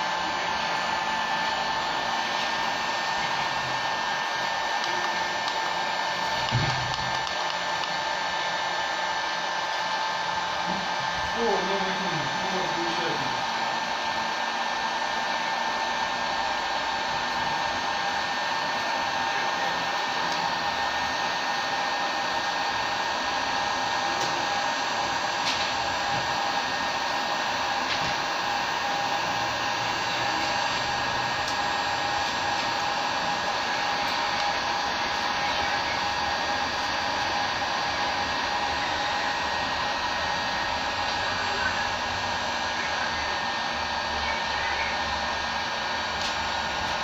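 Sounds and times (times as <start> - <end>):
heat gun blower rushing and whining: 0.0 - 47.0.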